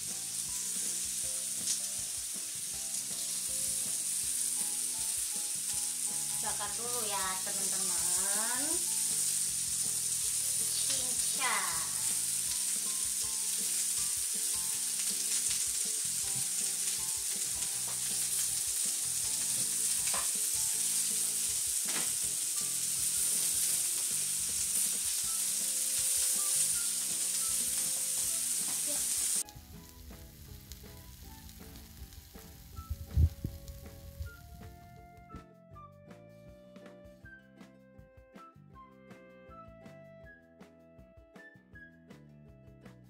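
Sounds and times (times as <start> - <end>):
meat sizzling on grill: 0.0 - 34.9
soft background music: 0.0 - 43.0.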